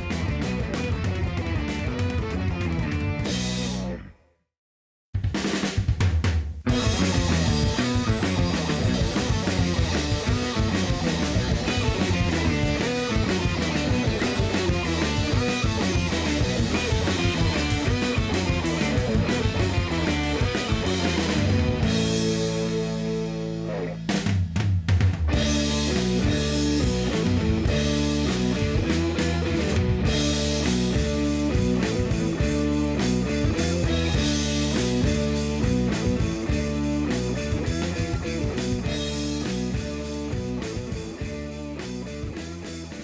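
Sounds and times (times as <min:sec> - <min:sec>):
rock music with guitar and drums: 0:00.0 - 0:04.1, 0:06.6 - 0:43.0.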